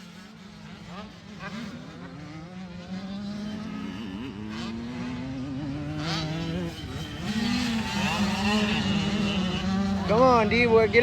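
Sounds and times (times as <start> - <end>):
motocross bikes racing: 0.0 - 11.0.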